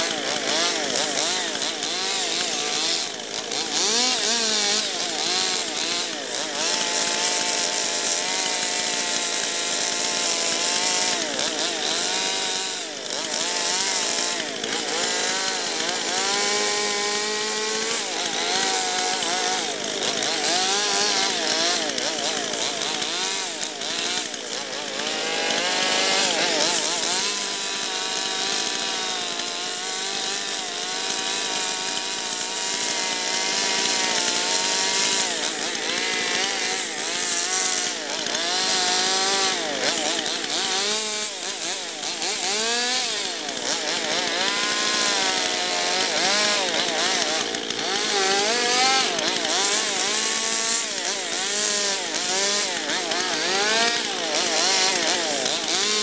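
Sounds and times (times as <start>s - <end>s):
chainsaw cutting wooden log: 0.0s - 56.0s.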